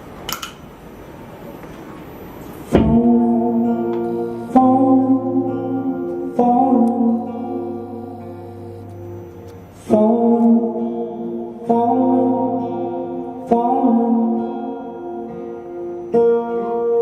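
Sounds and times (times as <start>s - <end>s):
sustained music chords: 2.7s - 17.0s.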